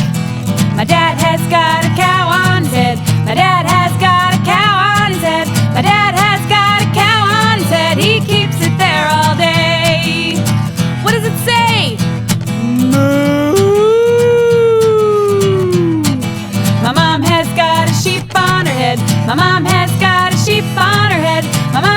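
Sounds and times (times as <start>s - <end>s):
solo singing voice: 0.8s - 10.4s, 12.6s - 21.9s.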